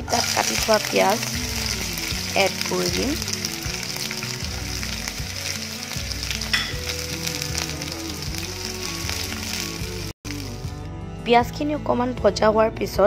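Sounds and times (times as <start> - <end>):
onion sizzling in oil: 0.0 - 10.6.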